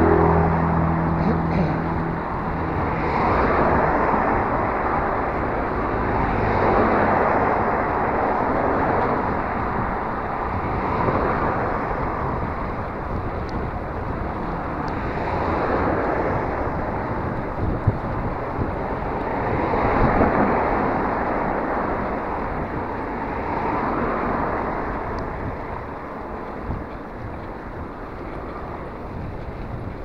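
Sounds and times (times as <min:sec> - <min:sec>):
bicycle road noise: 0:00.0 - 0:30.0
wind on microphone: 0:00.0 - 0:30.0.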